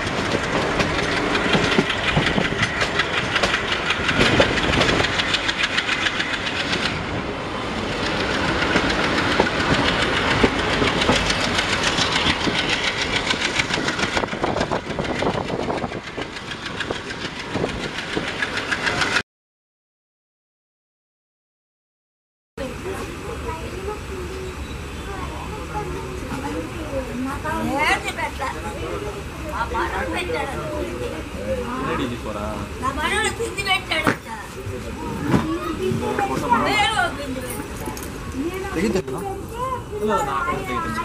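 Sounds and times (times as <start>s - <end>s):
train wheel clatter: 0.0s - 19.2s, 22.7s - 41.0s.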